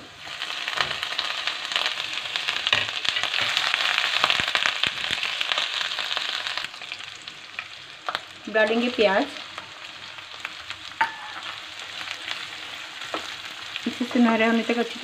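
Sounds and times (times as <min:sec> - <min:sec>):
ginger sizzling in hot oil: 0:00.0 - 0:15.0.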